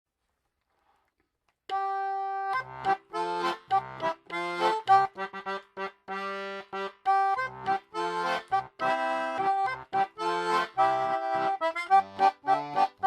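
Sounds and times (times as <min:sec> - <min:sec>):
concertina playing bouncy tune: 0:01.7 - 0:13.0.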